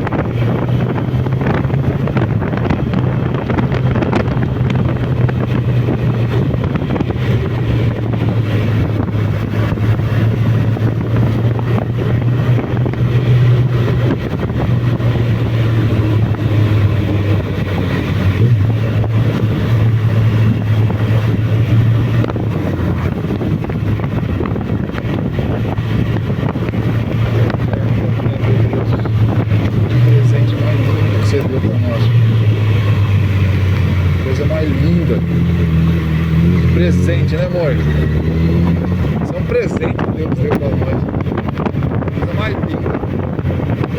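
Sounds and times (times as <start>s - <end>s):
motorcycle engine running: 0.0s - 43.9s
wind on microphone: 0.0s - 43.9s.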